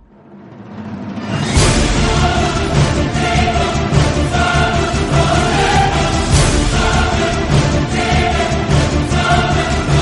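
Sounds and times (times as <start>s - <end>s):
soundtrack music with pulsing bass: 0.0s - 10.0s.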